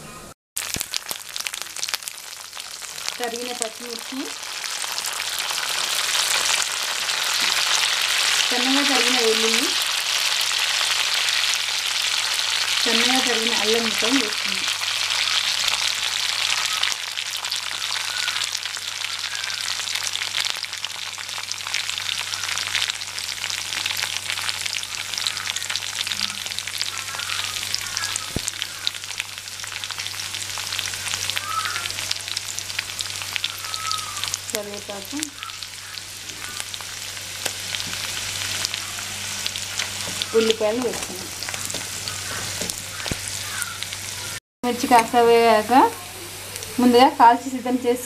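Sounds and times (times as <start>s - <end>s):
food sizzling in hot oil: 0.6s - 48.0s.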